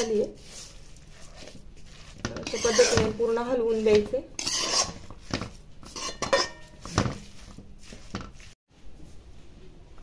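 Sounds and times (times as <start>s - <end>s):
steel spatula scraping a wok: 0.0s - 8.6s.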